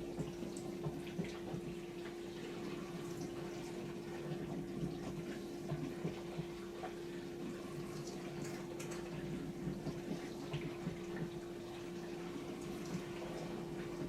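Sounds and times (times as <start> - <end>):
dishwasher pump hum: 0.0 - 14.0.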